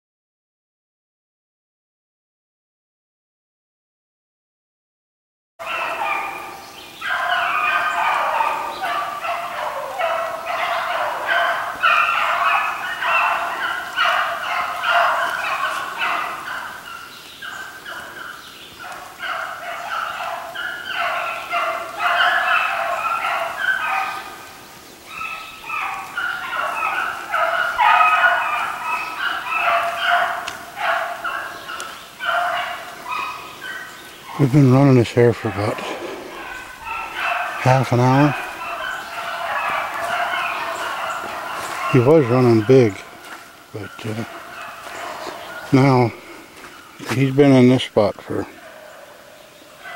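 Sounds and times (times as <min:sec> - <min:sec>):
hounds baying: 0:05.6 - 0:49.9.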